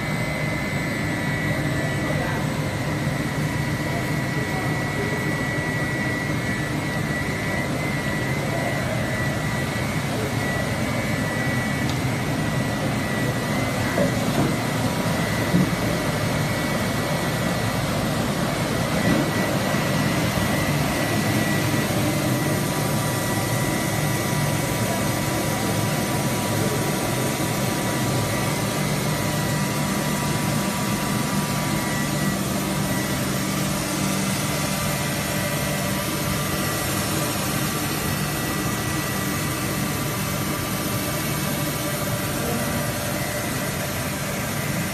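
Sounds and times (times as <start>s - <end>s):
high-pitched whine: 0.0s - 44.9s
steady machinery drone: 0.0s - 44.9s.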